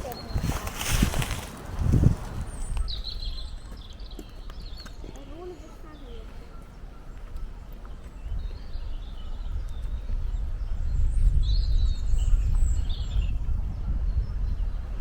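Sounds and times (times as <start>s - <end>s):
high bird calls: 0.0s - 15.0s
wind on microphone: 0.0s - 15.0s.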